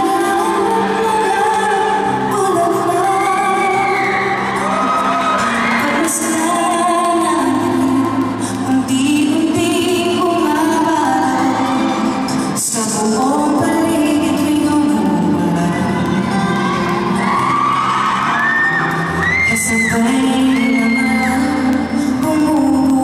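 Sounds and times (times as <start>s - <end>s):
woman singing a slow ballad: 0.0s - 17.3s, 18.7s - 23.0s.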